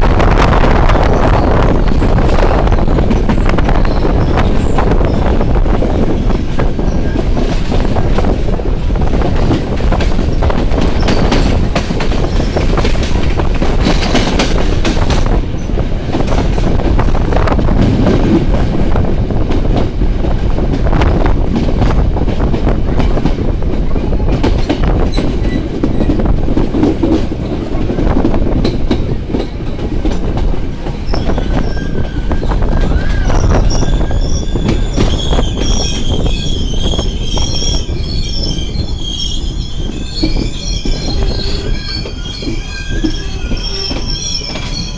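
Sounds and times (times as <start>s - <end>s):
rail joint clicks: 0.0s - 44.9s
train wheels rumbling on rails: 0.0s - 44.9s.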